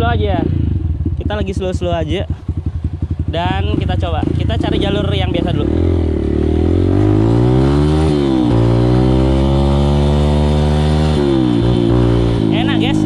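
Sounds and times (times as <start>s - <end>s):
motocross bike accelerating: 0.0s - 13.0s.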